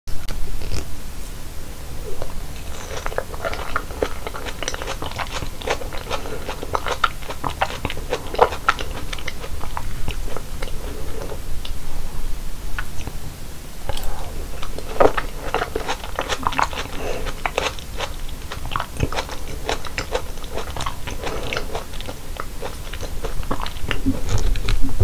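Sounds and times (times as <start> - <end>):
low steady hum: 0.1 - 25.0
crunchy fruit eating: 1.8 - 25.0.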